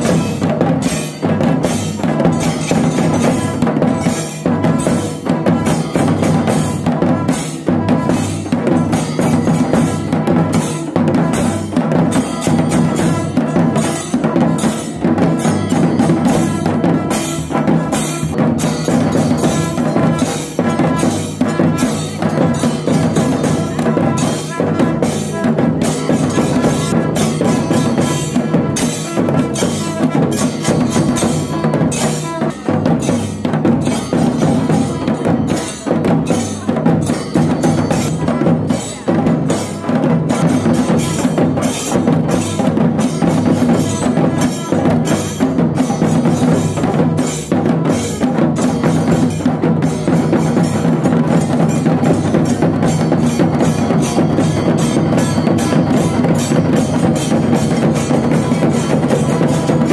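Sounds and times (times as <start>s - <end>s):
large drums beaten fast: 0.0s - 59.9s.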